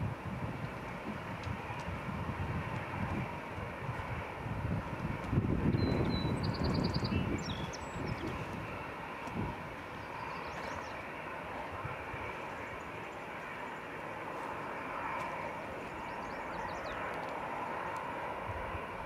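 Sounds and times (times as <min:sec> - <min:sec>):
distant jet engines running: 0:00.0 - 0:19.0.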